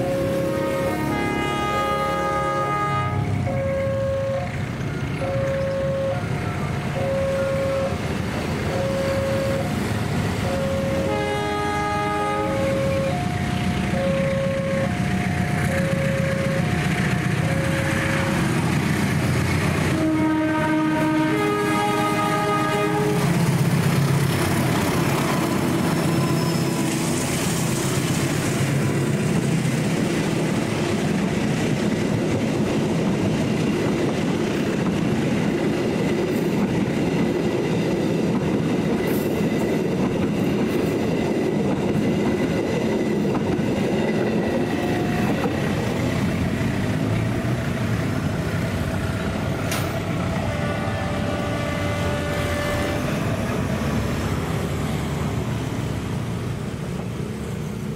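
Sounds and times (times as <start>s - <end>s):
coach wheels rushing on rails: 0.0s - 57.9s
locomotive engine passing: 0.0s - 57.9s.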